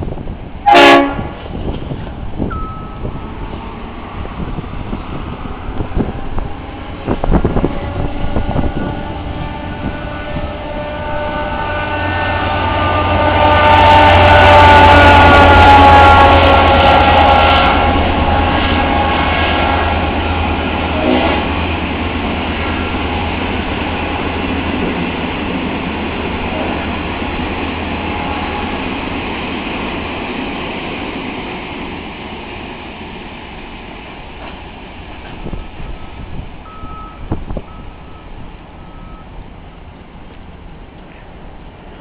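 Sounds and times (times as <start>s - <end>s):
freight train rumbling on rails: 0.0s - 42.0s.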